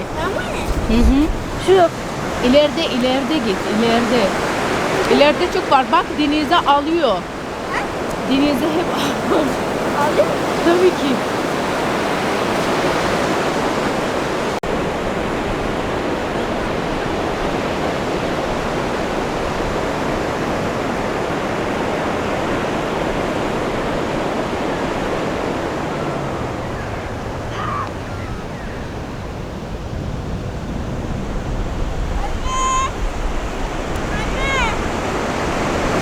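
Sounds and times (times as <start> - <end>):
waves breaking: 0.0 - 36.0.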